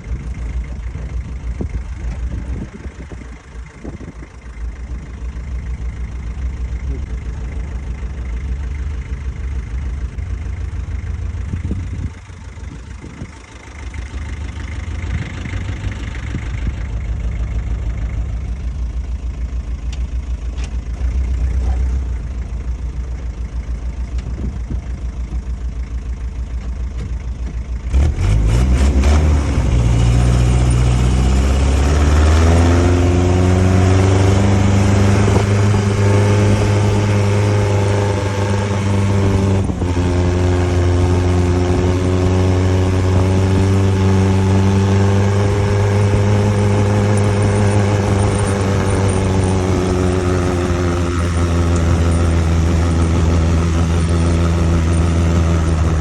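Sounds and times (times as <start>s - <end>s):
engine running and revving: 0.0s - 19.2s, 19.9s - 25.4s, 26.6s - 56.0s.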